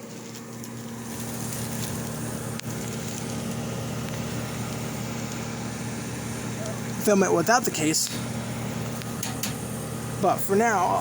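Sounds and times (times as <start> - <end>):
dehumidifier humming: 0.0 - 11.0.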